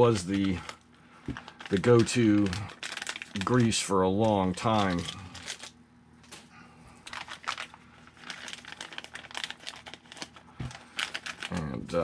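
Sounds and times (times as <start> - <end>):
plastic bag crinkling: 0.0 - 5.8, 7.0 - 12.0.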